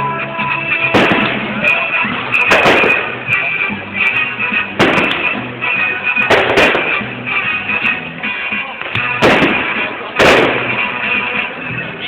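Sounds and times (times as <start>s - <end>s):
music playing: 0.0s - 12.0s
fireworks banging: 0.6s - 11.6s.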